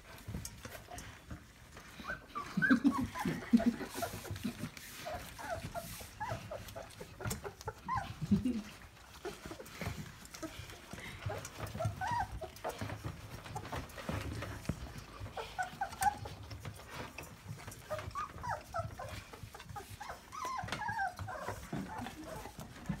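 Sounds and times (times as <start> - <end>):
soft knocks and scuffling: 0.0 - 23.0
puppies squeaking and whimpering: 0.6 - 23.0.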